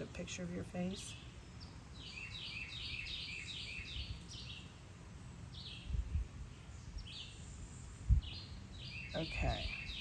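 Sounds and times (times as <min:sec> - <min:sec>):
songbird chirping: 0:00.0 - 0:10.0.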